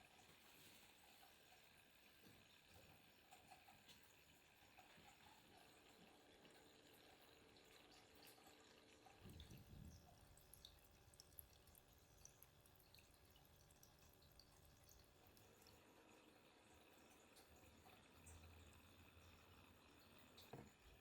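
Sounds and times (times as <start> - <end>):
faint water dripping and trickling: 0.0 - 21.0.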